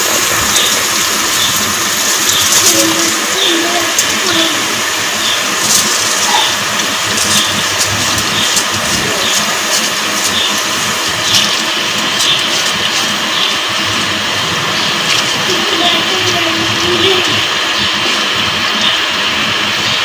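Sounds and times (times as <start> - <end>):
water boiling in pot: 0.0 - 20.0.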